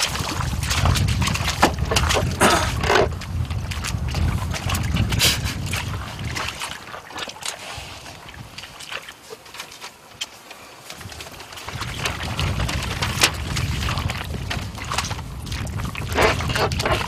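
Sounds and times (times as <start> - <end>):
wind buffeting microphone: 0.0 - 7.1, 7.8 - 8.9, 11.0 - 17.0.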